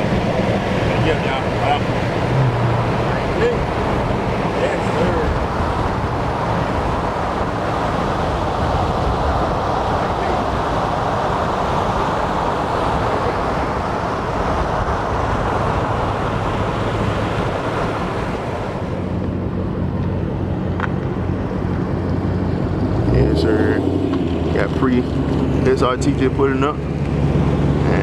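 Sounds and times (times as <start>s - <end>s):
car engine running: 0.0s - 28.0s
road and tyre noise: 0.0s - 28.0s.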